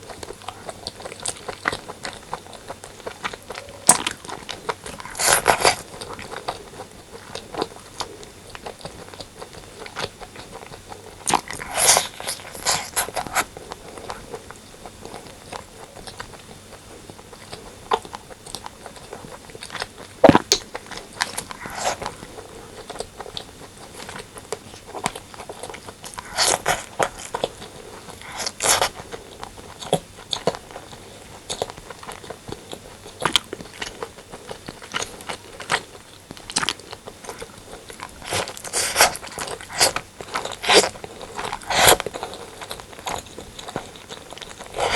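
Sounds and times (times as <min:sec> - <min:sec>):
close-miked chewing and biting: 0:00.0 - 0:44.9.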